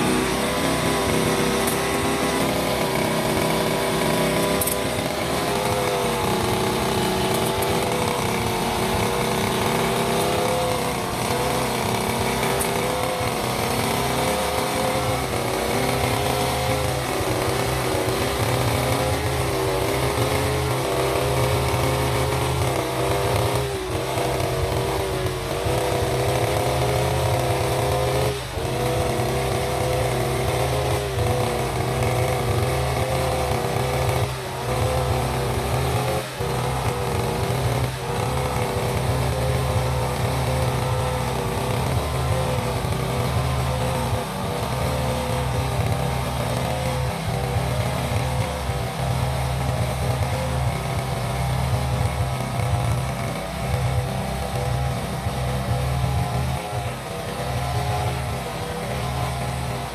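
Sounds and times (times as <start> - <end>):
brush cutter engine cutting grass: 0.0 - 59.9.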